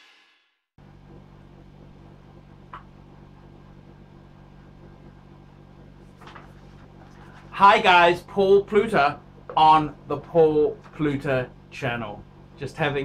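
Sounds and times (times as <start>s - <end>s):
low electrical hum: 0.8s - 13.0s.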